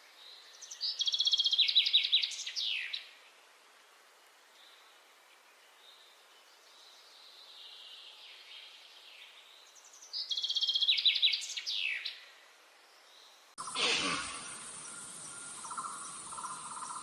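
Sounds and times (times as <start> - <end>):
bird singing: 0.0 - 3.2, 4.6 - 17.0.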